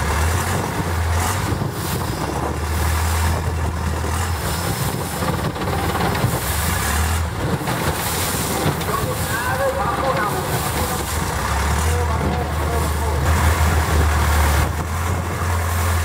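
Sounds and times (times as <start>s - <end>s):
boat engine drone: 0.0s - 16.0s
wind and water rushing: 0.0s - 16.0s.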